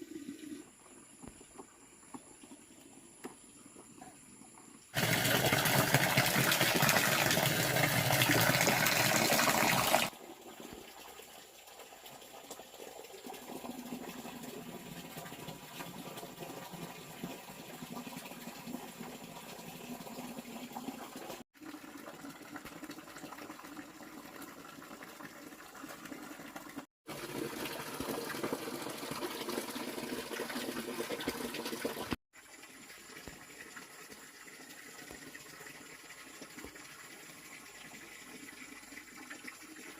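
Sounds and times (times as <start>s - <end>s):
water running and splashing: 5.0s - 39.9s.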